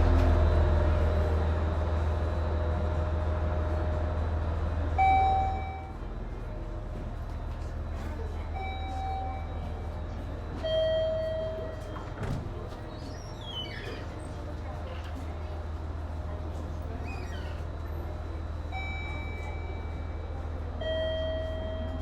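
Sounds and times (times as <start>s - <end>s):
train humming at rest: 0.0s - 22.0s.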